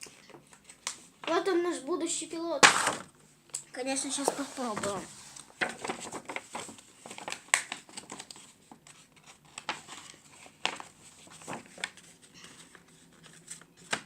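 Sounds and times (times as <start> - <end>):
paper rustling and crinkling: 0.0 - 1.5, 4.0 - 14.0.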